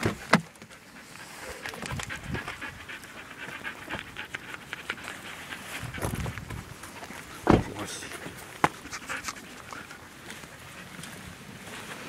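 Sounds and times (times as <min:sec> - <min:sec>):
dog panting: 0:00.0 - 0:11.4.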